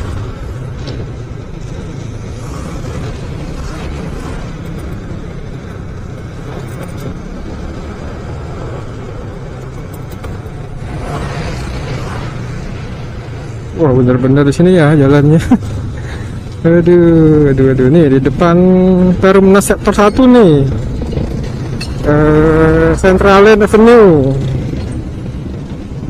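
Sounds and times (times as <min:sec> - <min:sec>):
motorcycle engine rumble: 0:00.0 - 0:26.0
road noise: 0:00.0 - 0:26.0.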